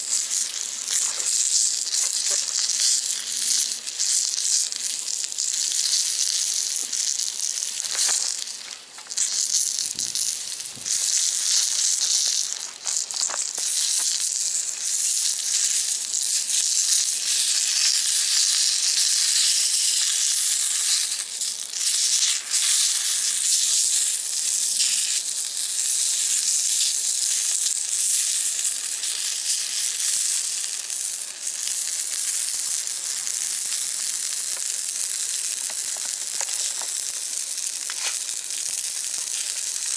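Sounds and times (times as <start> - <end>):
faint crackles: 0.0 - 39.9
food sizzling in a skillet: 0.0 - 39.9.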